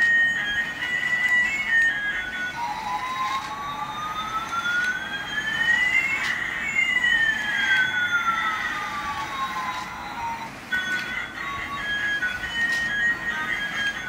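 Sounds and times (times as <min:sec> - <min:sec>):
toy siren-like tone: 0:00.0 - 0:14.0.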